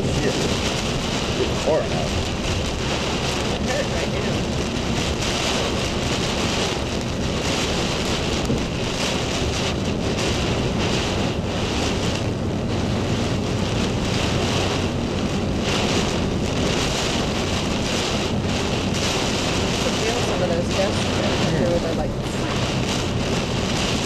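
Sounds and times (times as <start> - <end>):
hard driving rain: 0.0 - 24.0
strong storm wind: 0.0 - 24.0.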